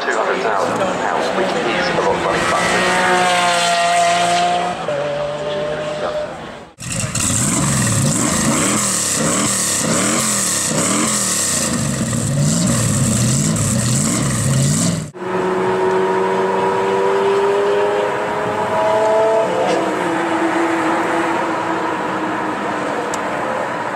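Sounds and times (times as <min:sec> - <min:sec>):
car accelerating: 0:00.0 - 0:23.9
car engine revving: 0:00.2 - 0:23.2.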